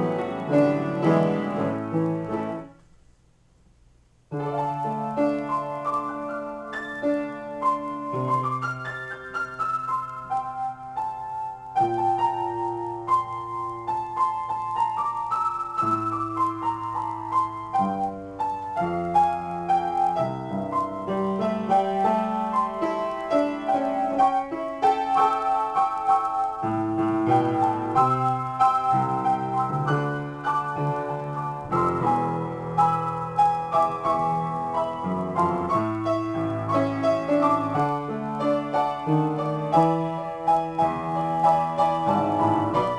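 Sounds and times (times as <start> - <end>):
piano improvisation: 0.0 - 3.0, 4.3 - 42.9.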